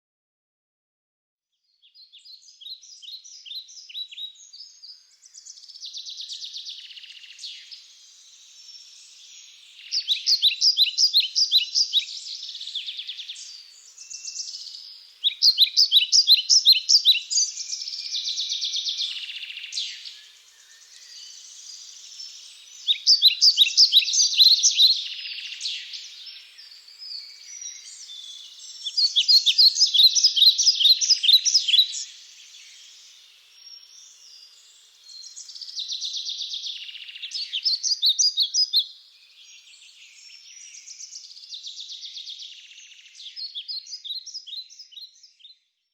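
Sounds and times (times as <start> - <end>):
songbirds singing: 1.8 - 45.9
soft bird chirping: 1.9 - 45.8.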